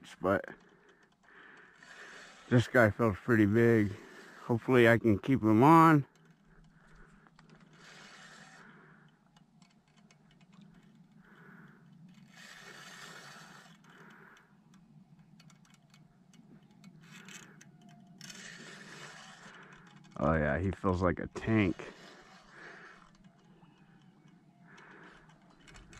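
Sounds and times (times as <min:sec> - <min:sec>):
fishing reel ticking: 0:00.0 - 0:25.9.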